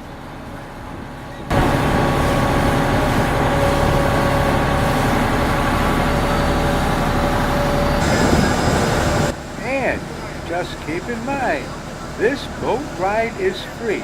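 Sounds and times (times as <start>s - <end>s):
boat engine droning: 0.0s - 14.0s
rushing water and wind: 0.1s - 14.0s.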